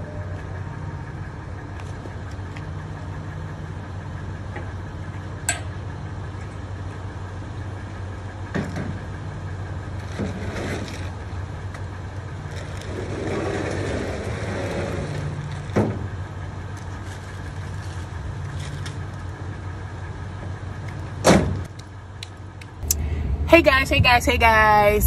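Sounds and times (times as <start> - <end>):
pickup truck engine idling: 0.0 - 25.0.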